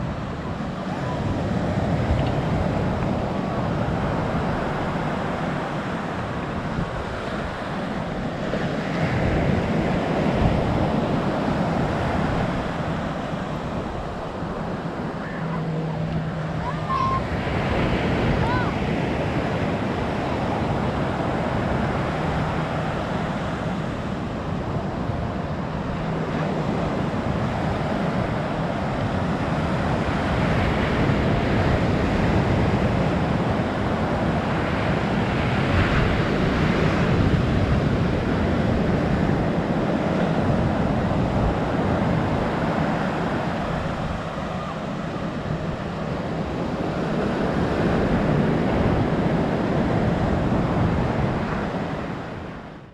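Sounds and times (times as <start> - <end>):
ocean surf on a beach: 0.0 - 52.9
wind buffeting the microphone: 0.0 - 52.9.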